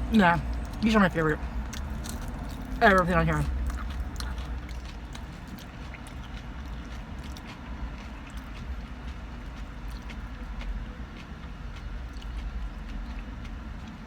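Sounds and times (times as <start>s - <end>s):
steady low rumble: 0.0s - 14.0s
crunchy chewing: 0.1s - 14.0s.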